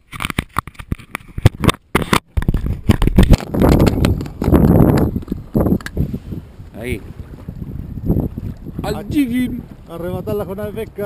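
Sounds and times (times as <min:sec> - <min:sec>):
wind buffeting microphone: 0:00.8 - 0:11.0.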